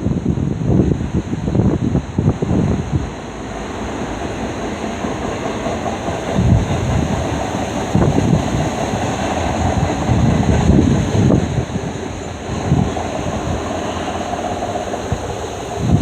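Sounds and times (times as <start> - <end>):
freight train cars rolling on rails: 0.0 - 16.0
wind buffeting microphone: 0.0 - 16.0.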